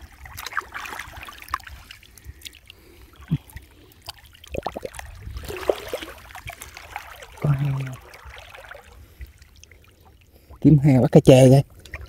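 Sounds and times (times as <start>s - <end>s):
water sloshing around wading person: 0.0s - 10.9s
small water splashes: 0.0s - 11.0s, 11.6s - 12.0s.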